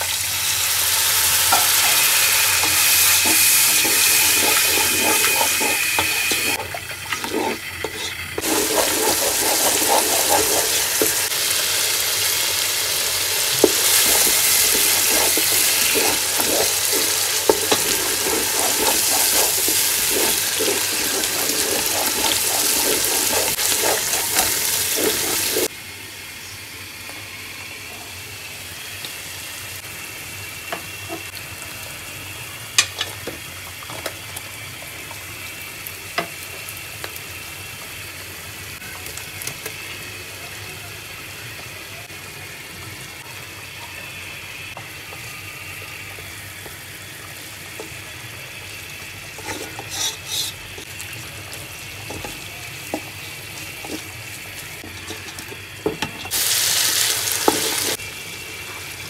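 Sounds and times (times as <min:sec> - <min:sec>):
prawns sizzling in a wok: 0:00.0 - 0:59.0.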